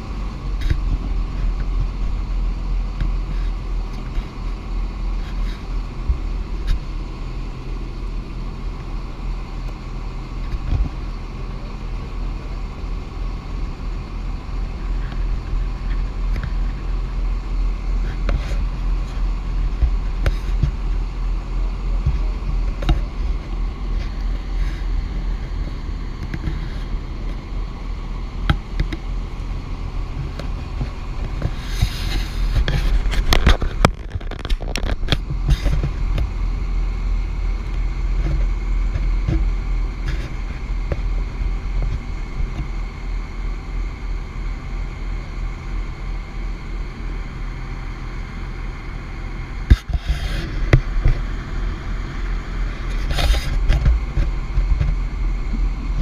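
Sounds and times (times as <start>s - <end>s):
boat engine rumbling: 0.0s - 56.0s.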